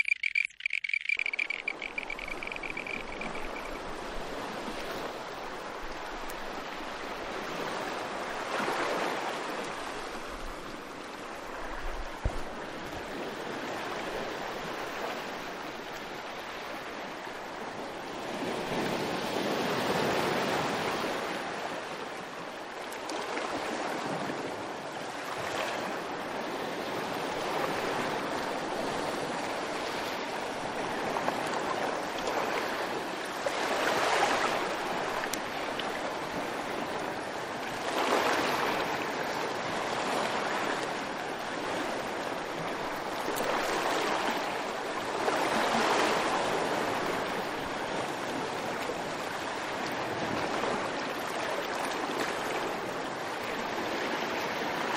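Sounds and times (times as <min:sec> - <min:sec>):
rushing water waves: 0:00.0 - 0:54.9.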